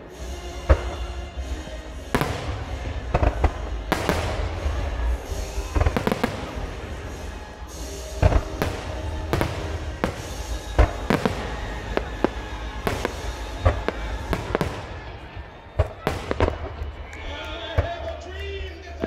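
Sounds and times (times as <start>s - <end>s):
fireworks booming: 0.0s - 19.0s.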